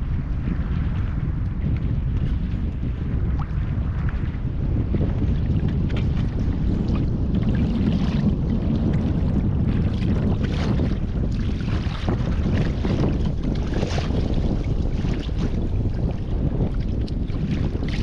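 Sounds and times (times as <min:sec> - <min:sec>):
wind buffeting microphone: 0:00.0 - 0:18.0
water lapping and splashing: 0:00.2 - 0:18.0.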